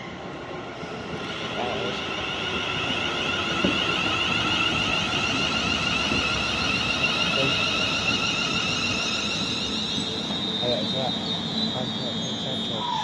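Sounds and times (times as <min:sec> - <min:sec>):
electric train warbling whine: 0:00.0 - 0:13.0.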